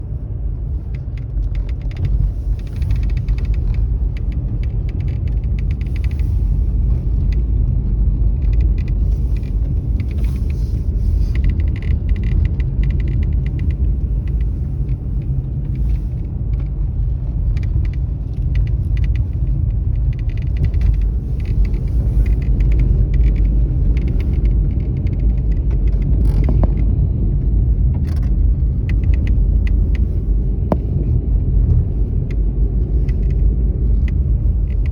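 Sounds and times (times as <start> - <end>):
car low rumble: 0.0 - 34.9.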